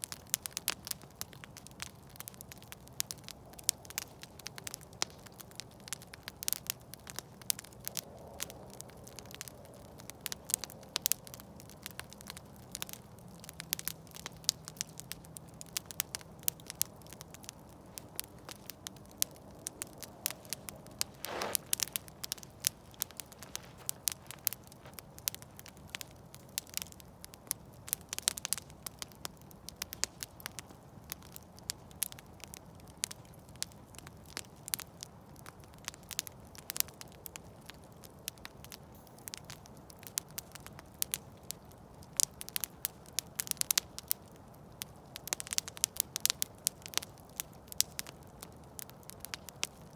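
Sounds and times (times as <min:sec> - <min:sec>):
campfire crackling and popping: 0:00.0 - 0:49.9
low rumble of flames: 0:00.0 - 0:49.9.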